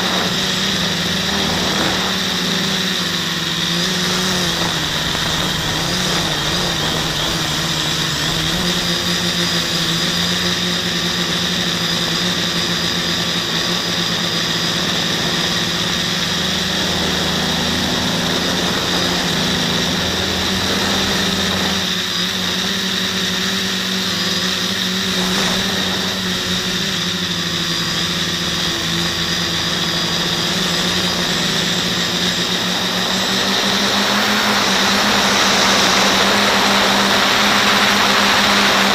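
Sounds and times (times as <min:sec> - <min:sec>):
quadcopter motors buzzing: 0:00.0 - 0:38.9.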